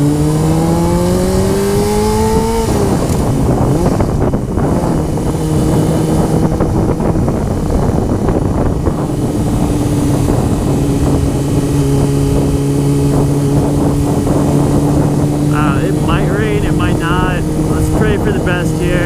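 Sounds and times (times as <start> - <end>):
motorcycle engine cruising: 0.0 - 19.0
wind buffeting microphone: 0.0 - 19.0.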